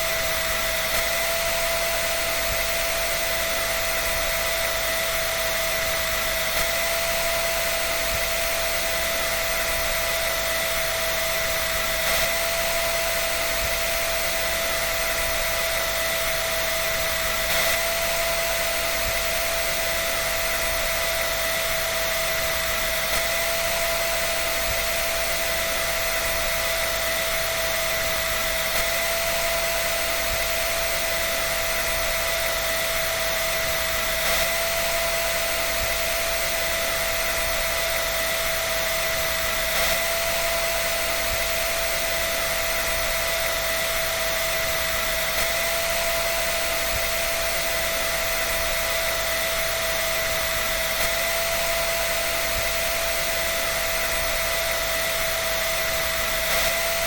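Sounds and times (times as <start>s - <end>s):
electric dryer running: 0.0s - 57.0s.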